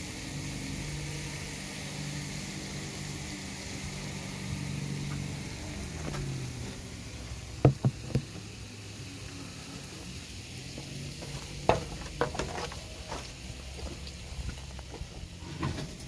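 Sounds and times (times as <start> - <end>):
shrimp sizzling in skillet: 0.0 - 16.0.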